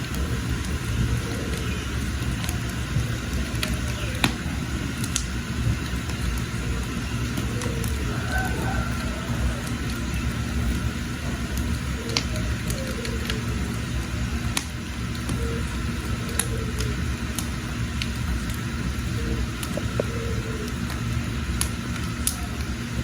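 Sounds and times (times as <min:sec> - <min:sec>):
fire rumbling: 0:00.0 - 0:23.0
firewood crackling and popping: 0:00.0 - 0:23.0.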